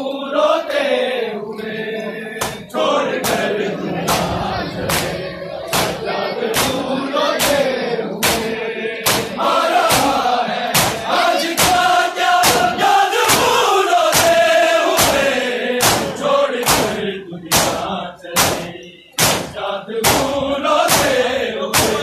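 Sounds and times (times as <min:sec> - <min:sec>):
crowd chanting in unison: 0:00.0 - 0:22.0
rhythmic chest-beating slaps: 0:02.4 - 0:22.0.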